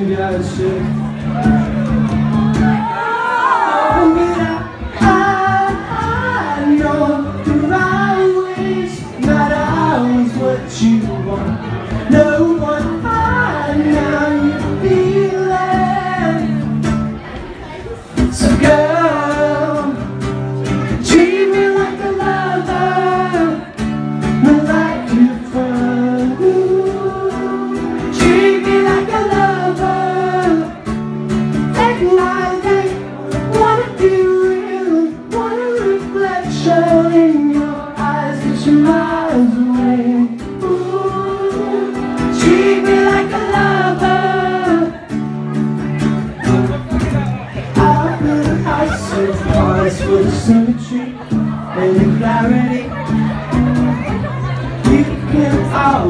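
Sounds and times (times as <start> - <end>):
man singing: 0.0 - 1.7, 2.6 - 16.9, 18.2 - 45.2, 47.4 - 56.0
strummed acoustic guitar: 0.0 - 3.0, 3.9 - 56.0.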